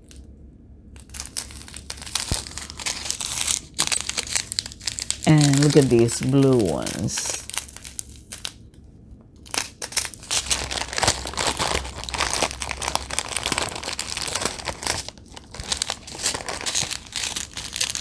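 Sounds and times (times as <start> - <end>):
plastic bags crinkling: 1.0 - 8.6, 9.4 - 18.0.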